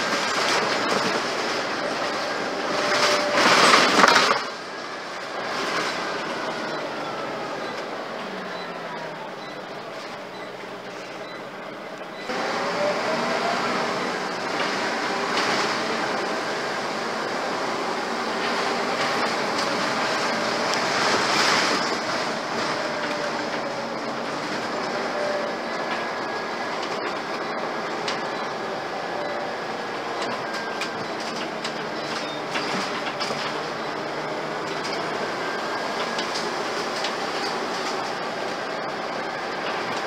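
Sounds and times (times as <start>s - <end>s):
diesel engine running: 0.0s - 40.0s
road noise: 0.0s - 40.0s.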